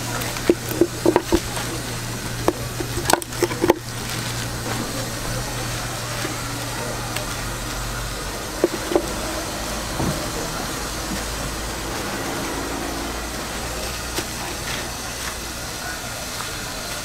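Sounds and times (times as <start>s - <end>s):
steady hissing rumble: 0.0s - 17.0s.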